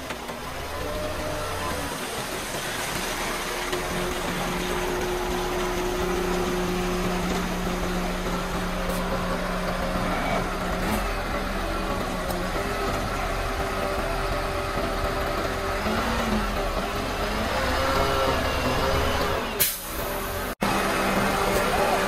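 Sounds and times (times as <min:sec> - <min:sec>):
diesel engine running: 0:00.0 - 0:22.0
concrete pouring down chute: 0:00.1 - 0:18.4.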